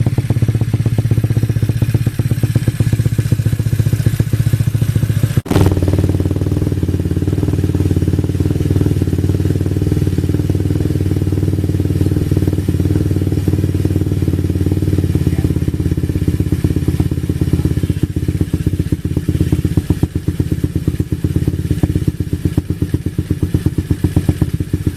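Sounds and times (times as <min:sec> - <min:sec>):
scooter engine running: 0:00.0 - 0:24.9.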